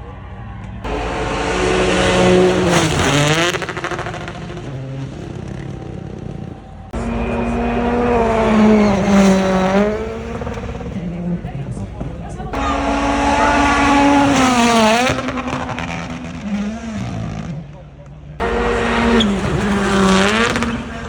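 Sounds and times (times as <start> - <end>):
second rally car at high revs: 0.8 - 21.0
rally car passing at high revs: 0.9 - 21.0.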